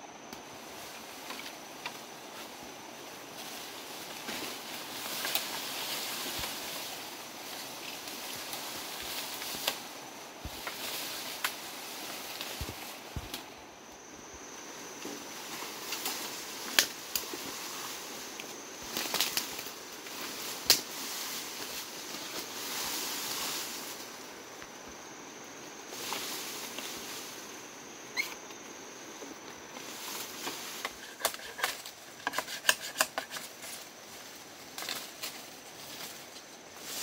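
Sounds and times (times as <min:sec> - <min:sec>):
bamboo leaves rustling: 0:00.2 - 0:37.0.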